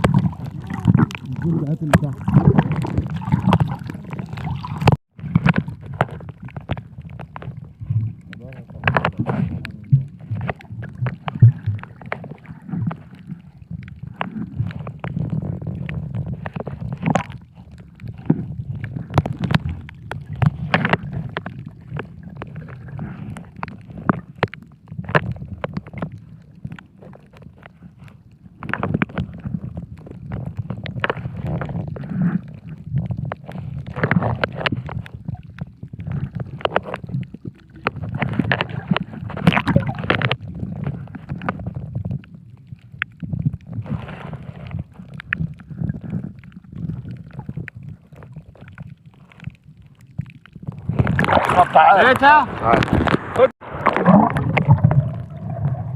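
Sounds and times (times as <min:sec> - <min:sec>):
muffled underwater rumbling: 0:00.0 - 0:55.9
sharp clicks and crackles: 0:00.0 - 0:55.9.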